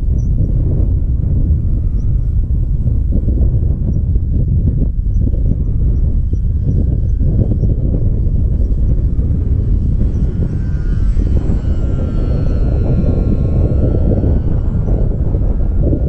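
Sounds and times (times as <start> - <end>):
model glider motor whine: 0.0 - 16.0
wind rumbling on microphone: 0.0 - 16.0.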